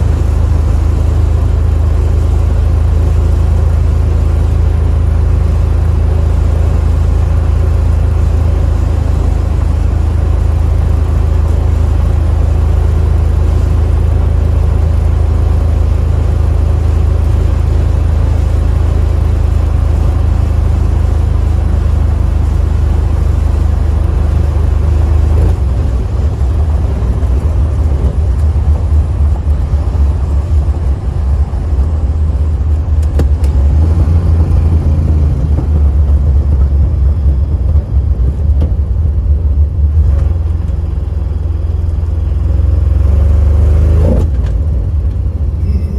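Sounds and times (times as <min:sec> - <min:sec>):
car engine low drone: 0:00.0 - 0:45.9.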